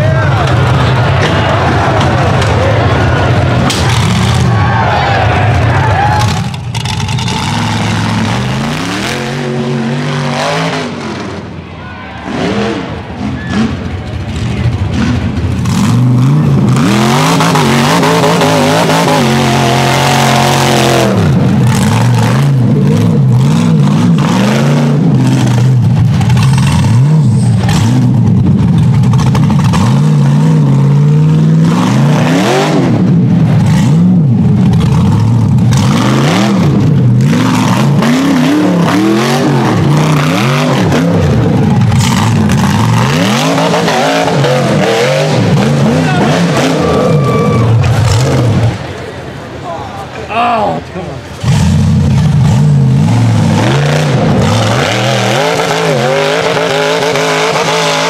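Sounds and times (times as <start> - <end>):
buggy engine revving hard: 0.0 - 11.6, 12.2 - 49.4, 50.6 - 58.0.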